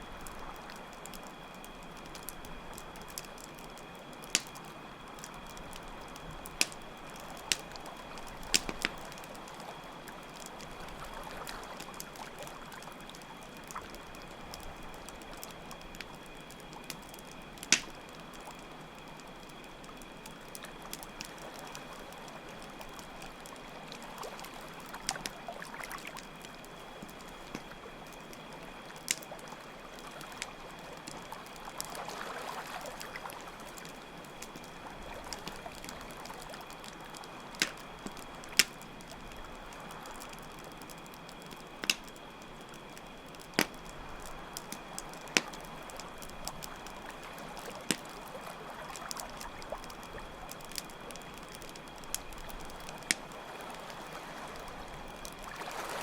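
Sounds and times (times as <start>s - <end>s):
campfire crackling: 0.0s - 56.0s
crickets chirping: 0.0s - 56.0s
trickle of running water: 0.0s - 56.0s.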